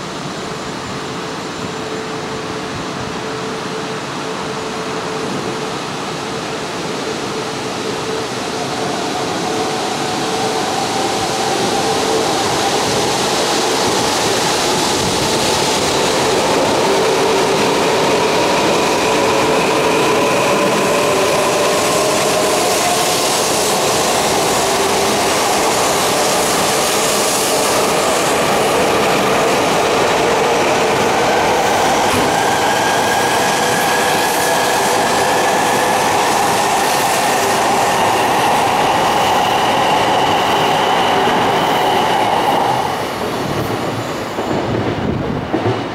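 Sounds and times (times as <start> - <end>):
train whine rising in pitch: 0.2 - 44.8.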